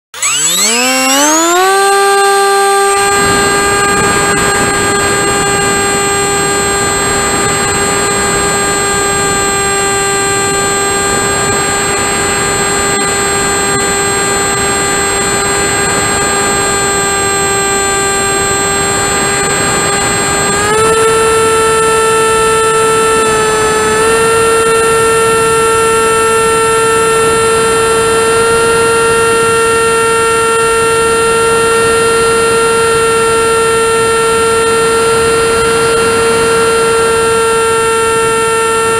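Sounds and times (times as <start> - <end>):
model airplane motor whine: 0.0 - 38.9.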